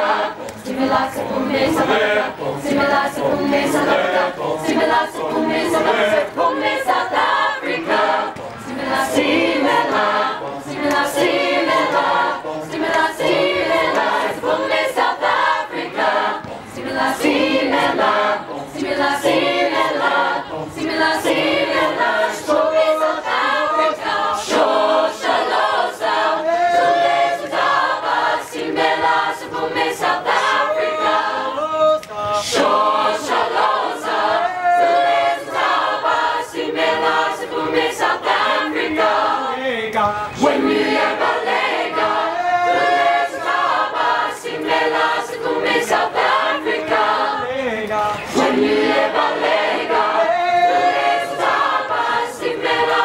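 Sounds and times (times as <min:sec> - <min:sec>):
mixed choir singing a cappella: 0:00.0 - 0:53.0.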